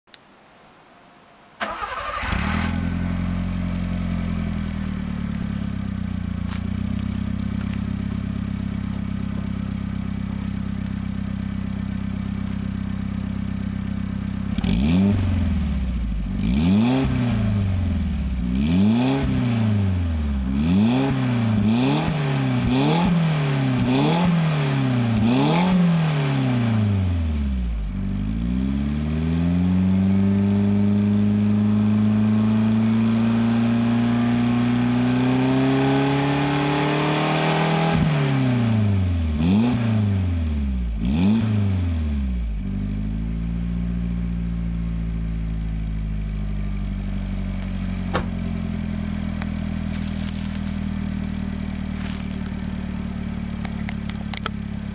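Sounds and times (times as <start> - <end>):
car engine revving: 1.6 - 54.9.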